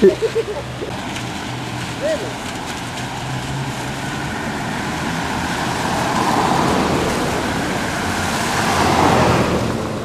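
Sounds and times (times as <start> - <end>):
car driving past: 1.0 - 10.0.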